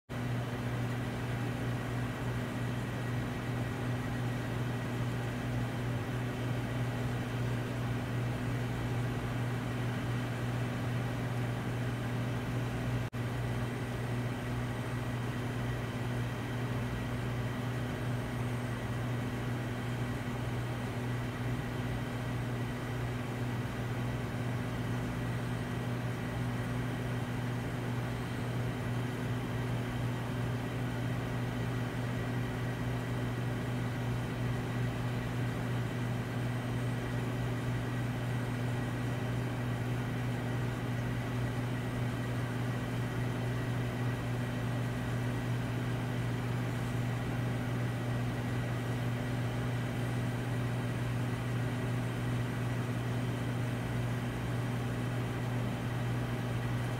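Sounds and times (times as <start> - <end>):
low mechanical hum: 0.1 - 56.9.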